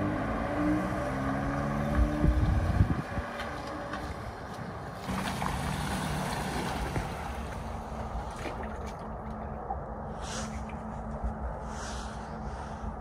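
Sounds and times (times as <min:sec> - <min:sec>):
water washing around vehicle: 0:00.0 - 0:11.6.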